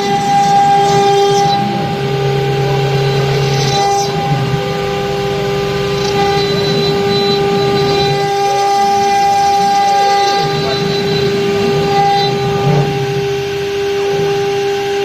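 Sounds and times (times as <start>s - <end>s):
rough grinding of marble: 0.0s - 13.2s
stone router high whine: 0.0s - 15.0s.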